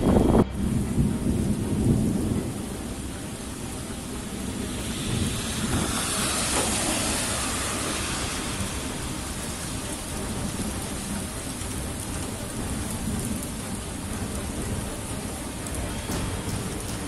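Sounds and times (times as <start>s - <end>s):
heavy rain pouring: 0.0s - 17.0s
rolling thunder: 0.0s - 17.0s.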